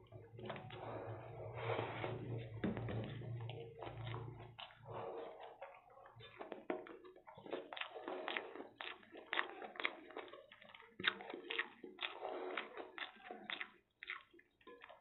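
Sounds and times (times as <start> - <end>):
chewing noodles: 0.0 - 15.0.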